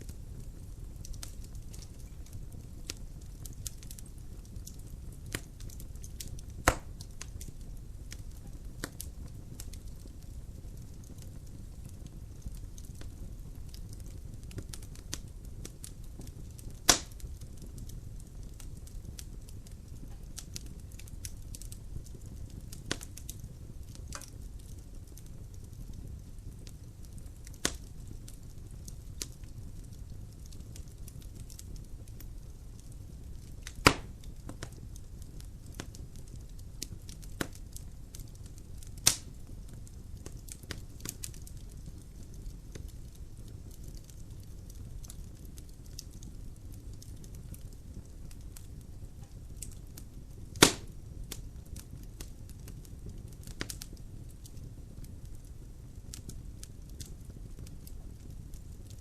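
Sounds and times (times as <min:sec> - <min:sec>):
logs crackling and popping: 0:00.0 - 0:59.0
low rumble of fire: 0:00.0 - 0:59.0.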